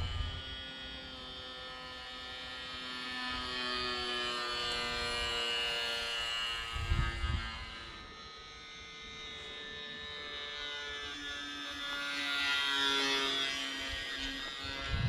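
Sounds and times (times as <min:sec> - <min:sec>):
electric motor and propeller buzzing: 0:00.0 - 0:15.0.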